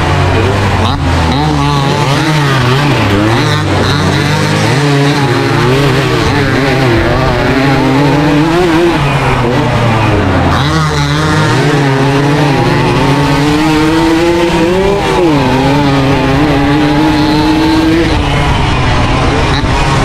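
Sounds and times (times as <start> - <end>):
two-stroke engine revving high: 0.0 - 20.0.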